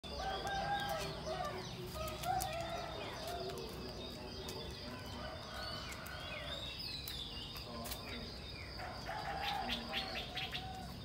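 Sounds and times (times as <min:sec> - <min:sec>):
birds calling and chirping: 0:00.0 - 0:11.0.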